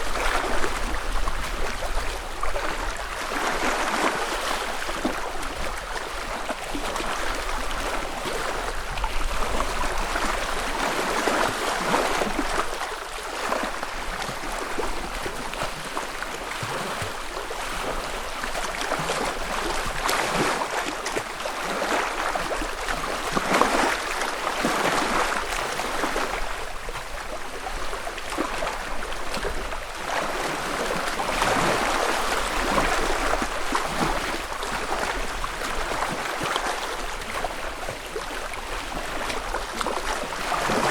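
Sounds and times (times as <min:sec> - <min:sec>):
lake waves lapping: 0:00.0 - 0:40.9.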